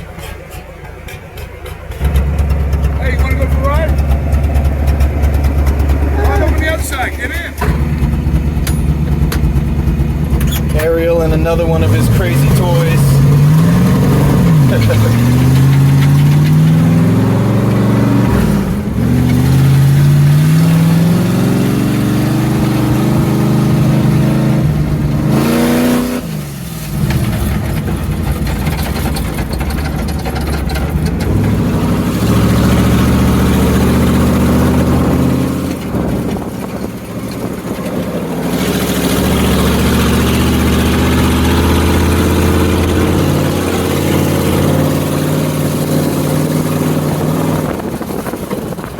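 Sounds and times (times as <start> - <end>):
truck engine revving: 0.0 - 48.9.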